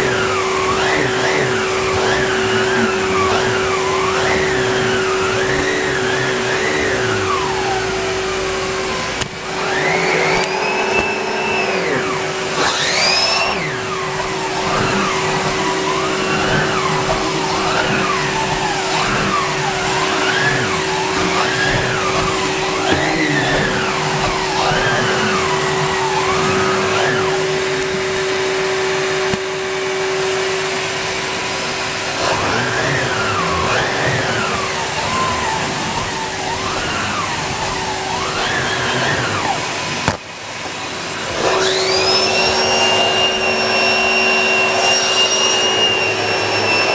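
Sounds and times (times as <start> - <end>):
rushing air whistle: 0.0 - 39.9, 41.3 - 46.9
vacuum cleaner motor whine: 0.0 - 46.9.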